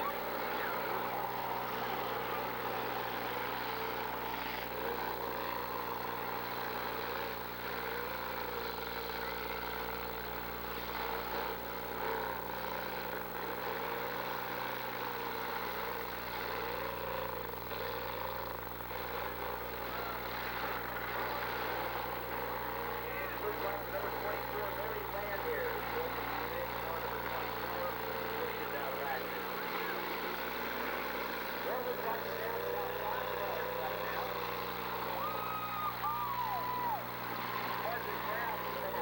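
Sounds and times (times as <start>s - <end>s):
car engines revving: 0.0s - 15.3s, 18.9s - 39.0s
steady low hum: 0.0s - 39.0s.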